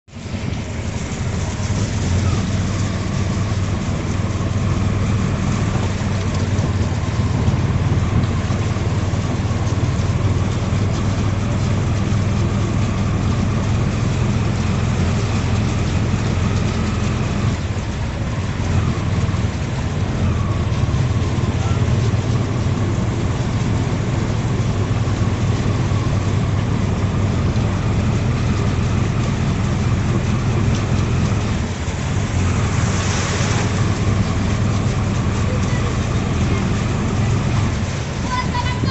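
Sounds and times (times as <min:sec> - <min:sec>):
rush of water: 0:00.0 - 0:38.9.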